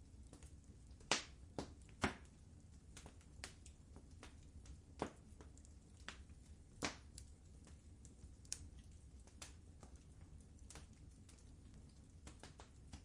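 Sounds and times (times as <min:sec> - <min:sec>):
faint low rumble: 0:00.0 - 0:13.0
wood fire crackling: 0:00.0 - 0:13.0.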